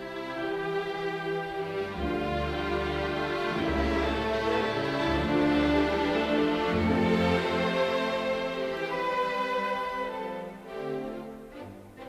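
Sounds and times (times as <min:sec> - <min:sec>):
instrumental music with held notes: 0:00.0 - 0:12.0.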